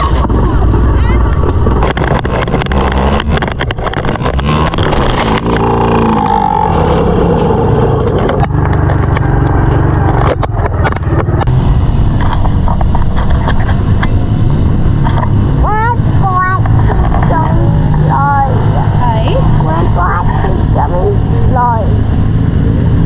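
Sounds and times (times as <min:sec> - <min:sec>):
dirt bike engine running: 0:00.0 - 0:23.0
wind buffeting on microphone: 0:00.0 - 0:23.0.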